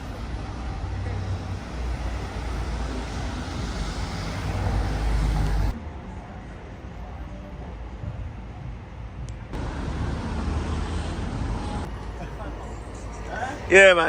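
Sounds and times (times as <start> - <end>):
street traffic: 0.0 - 14.0
vehicle engine rumbling: 0.0 - 14.0.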